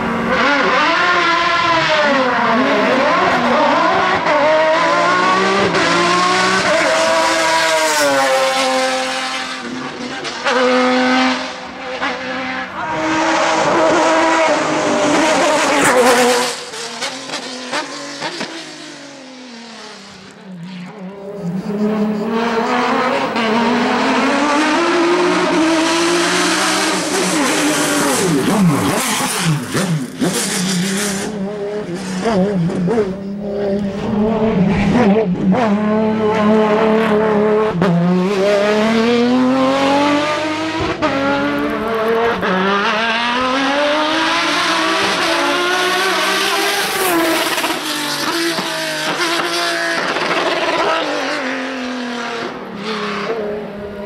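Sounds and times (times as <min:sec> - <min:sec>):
car engine revving high: 0:00.0 - 0:54.0.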